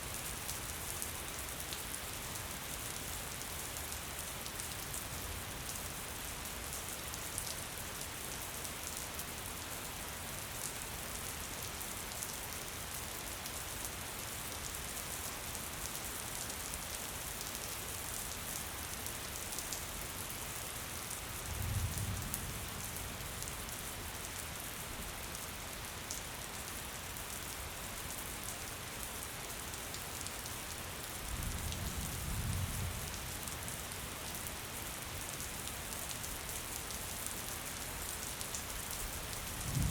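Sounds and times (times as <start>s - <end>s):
gentle steady rain: 0.0s - 39.9s.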